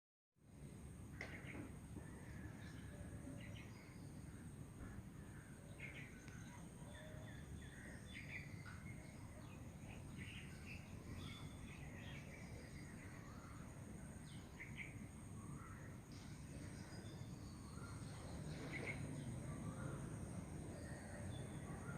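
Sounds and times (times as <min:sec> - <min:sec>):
low rushing background: 0:00.4 - 0:21.9
wild birds chirping: 0:00.5 - 0:21.9.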